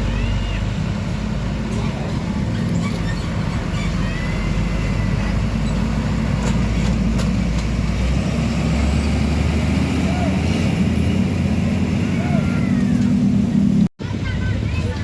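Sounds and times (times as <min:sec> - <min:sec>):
diesel truck engine droning: 0:00.0 - 0:15.0.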